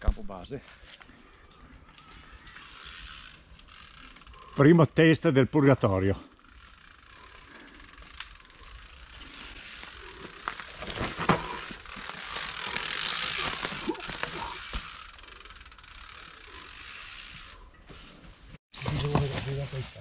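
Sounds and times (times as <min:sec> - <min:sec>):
bike clicks and rattles: 0:00.6 - 0:04.6, 0:06.2 - 0:19.5.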